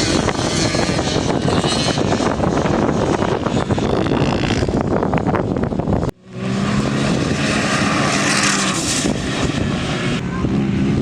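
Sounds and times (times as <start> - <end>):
rough off-road engine: 0.0 - 11.0.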